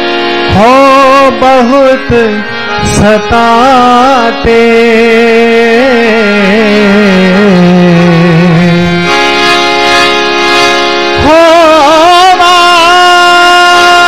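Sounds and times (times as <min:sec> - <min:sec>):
person singing devotional song: 0:00.0 - 0:14.0
sustained instrumental chord: 0:00.0 - 0:14.0.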